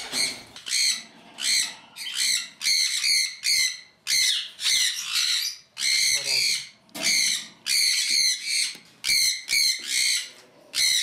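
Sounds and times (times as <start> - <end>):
parrot screeching: 0.1 - 11.0.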